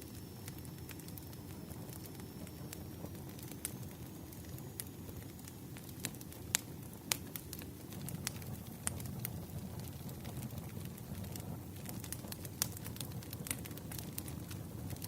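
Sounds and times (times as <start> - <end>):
burning wood popping and crackling: 0.0 - 15.0
campfire flames rushing: 0.1 - 15.0.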